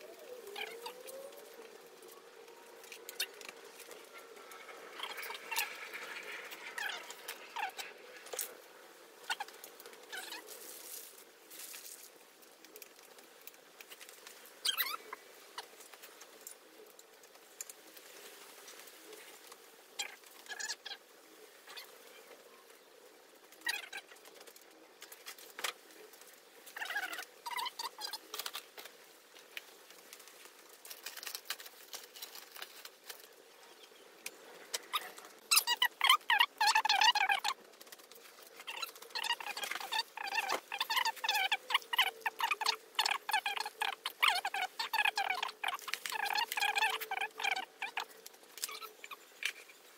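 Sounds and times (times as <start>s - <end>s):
cables clicking and rustling: 0.0s - 49.9s.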